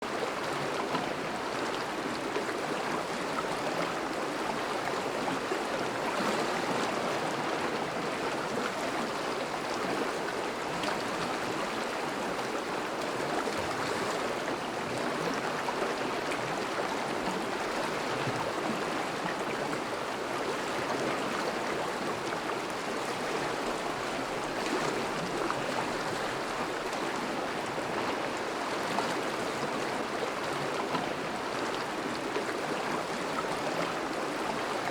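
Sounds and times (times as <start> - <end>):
river water rushing over ice: 0.1 - 34.9.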